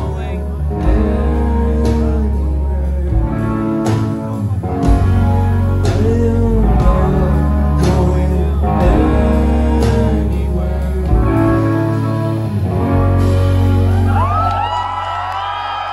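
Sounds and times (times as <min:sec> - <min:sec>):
person singing: 0:00.0 - 0:12.8
live rock band playing: 0:00.0 - 0:15.5.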